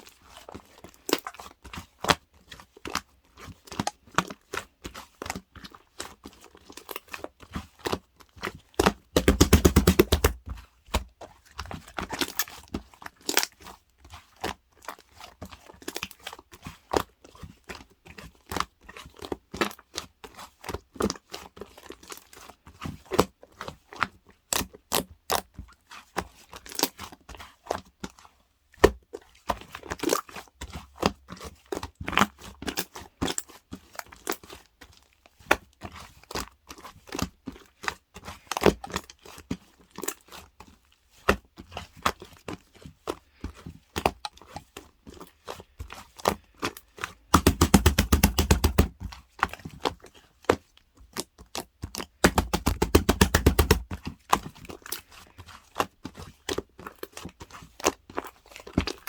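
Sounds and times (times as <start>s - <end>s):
crinkling and tapping objects: 0.1s - 59.0s.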